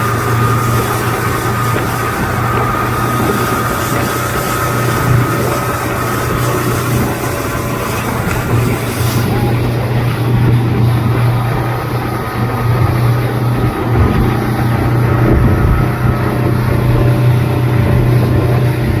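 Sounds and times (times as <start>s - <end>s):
speedboat engine running: 0.0s - 19.0s.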